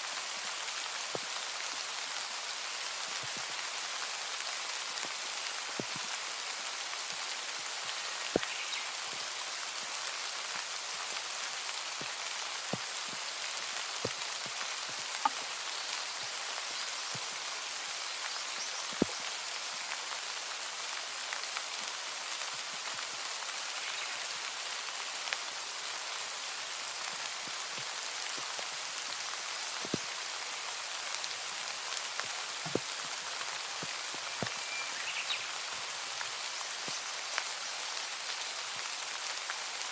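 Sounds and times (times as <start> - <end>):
raindrops hitting close by: 0.0 - 39.9
steady rain hiss: 0.0 - 39.9.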